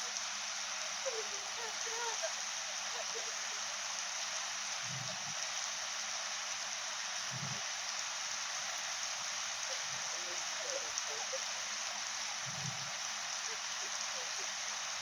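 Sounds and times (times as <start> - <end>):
artificial rain pouring: 0.0 - 15.0.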